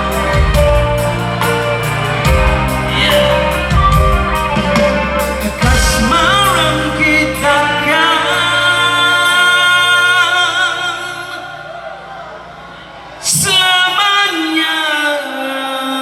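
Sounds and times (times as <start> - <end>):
live rock band playing: 0.0 - 13.5.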